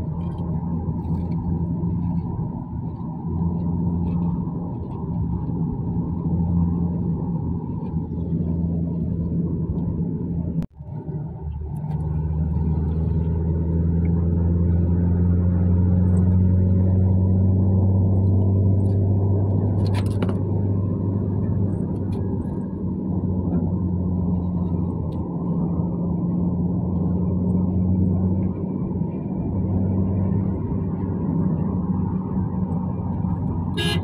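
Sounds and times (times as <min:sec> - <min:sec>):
car engine drone and road noise: 0:00.0 - 0:34.0.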